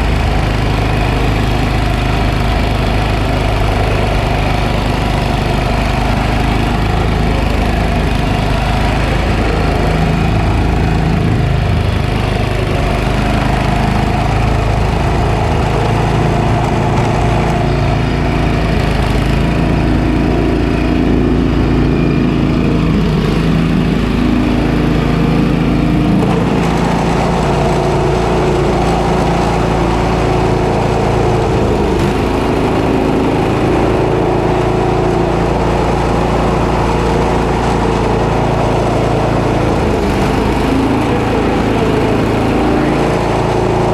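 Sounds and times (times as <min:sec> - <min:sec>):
snowblower engine running: 0:00.0 - 0:43.9.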